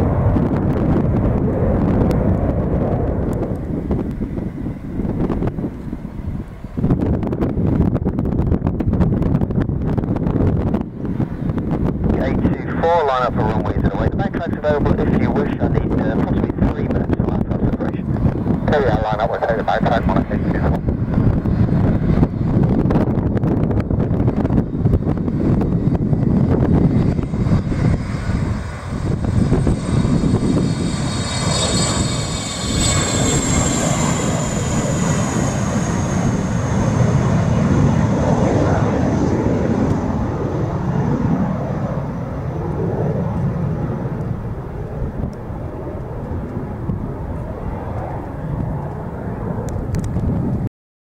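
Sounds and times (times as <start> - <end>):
jet airliner engines passing: 0.0 - 50.7.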